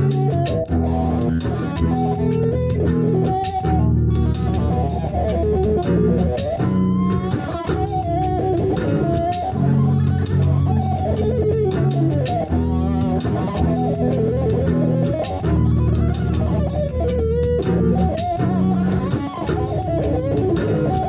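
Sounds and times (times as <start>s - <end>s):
electric guitar bluesy lead: 0.0s - 21.0s.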